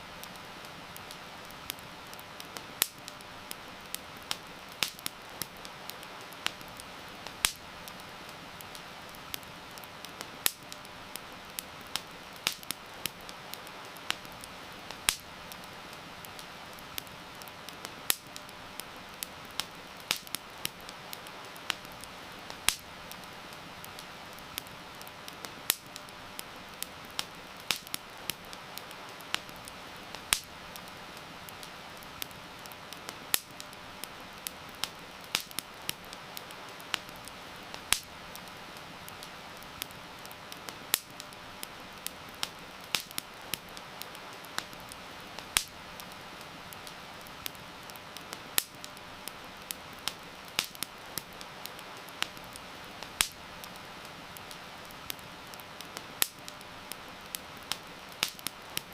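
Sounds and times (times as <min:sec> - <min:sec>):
campfire crackling and popping: 0:00.0 - 0:58.9
heavy rain hiss: 0:00.0 - 0:58.9.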